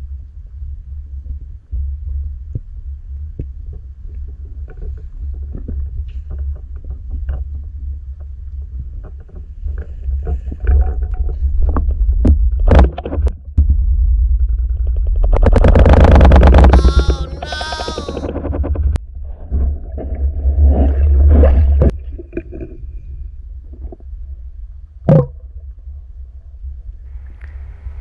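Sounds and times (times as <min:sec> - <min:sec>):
underwater water rumble: 0:00.0 - 0:16.8, 0:18.2 - 0:28.0.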